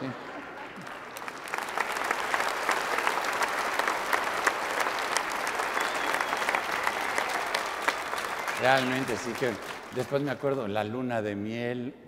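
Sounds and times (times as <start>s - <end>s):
large audience applause: 0.0s - 10.7s.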